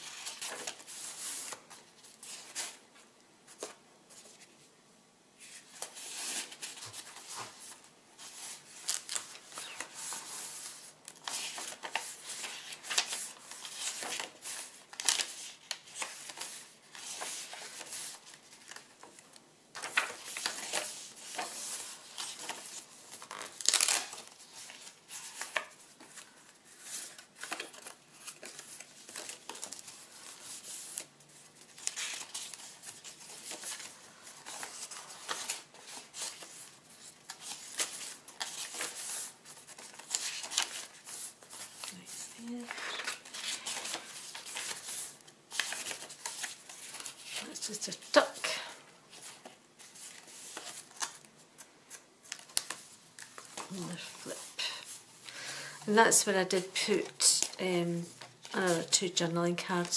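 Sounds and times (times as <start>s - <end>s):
paper pages rustling: 0.0s - 2.8s, 3.5s - 4.6s, 5.4s - 55.0s.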